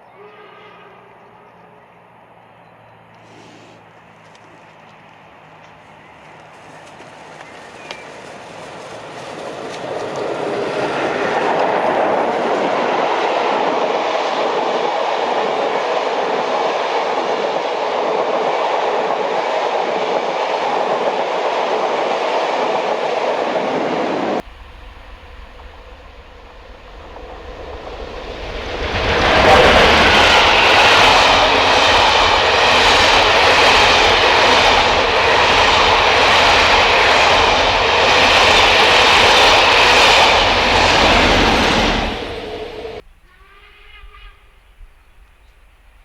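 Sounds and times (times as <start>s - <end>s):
train wheels rushing on rails: 3.1s - 46.0s.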